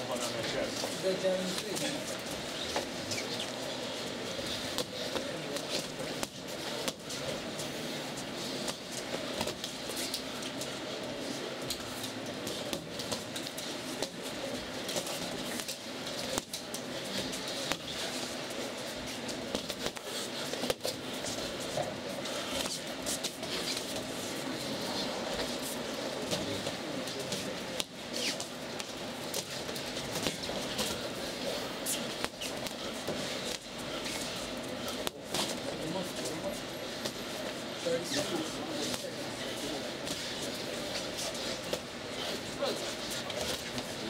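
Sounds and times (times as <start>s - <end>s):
room noise: 0.0s - 44.0s.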